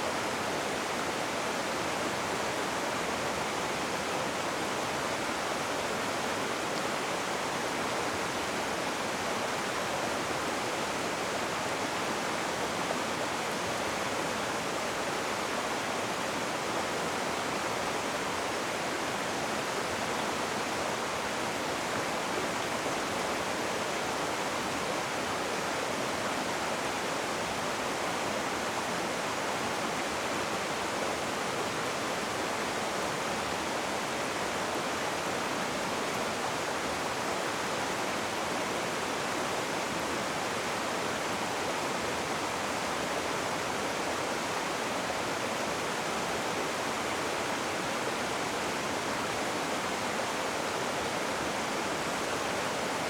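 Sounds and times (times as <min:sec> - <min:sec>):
rushing water: 0:00.0 - 0:53.0.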